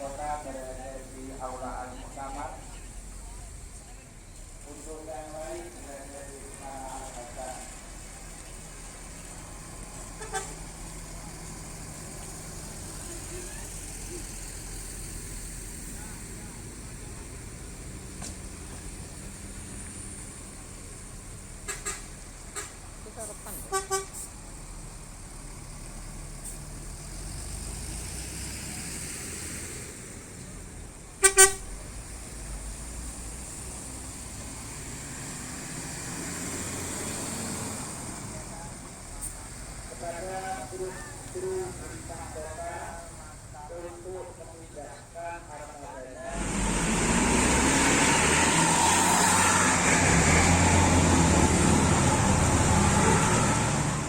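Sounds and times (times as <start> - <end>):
bus diesel engine rumble: 0.0 - 54.0
traffic noise: 0.0 - 54.0.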